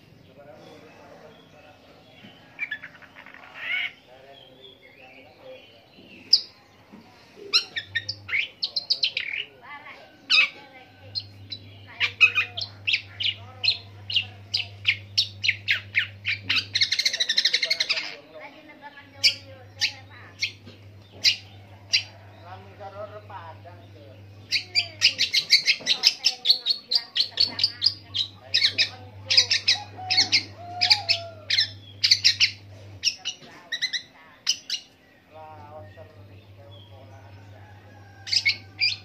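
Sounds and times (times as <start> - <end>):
bird singing varied song: 0.0 - 39.0.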